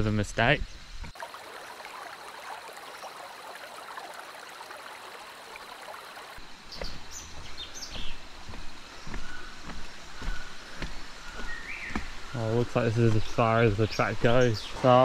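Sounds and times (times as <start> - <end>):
stream water flowing: 1.1 - 15.0.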